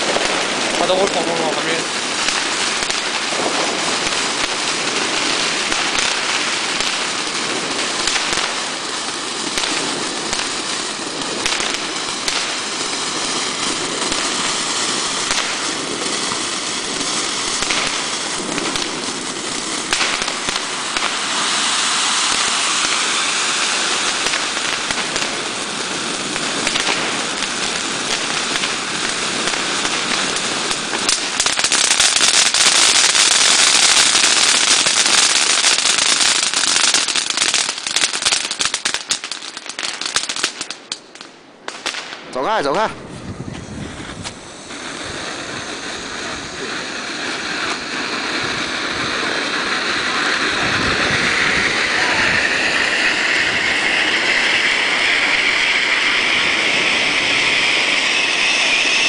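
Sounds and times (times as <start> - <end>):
fountain fireworks hissing and crackling: 0.0 - 59.0.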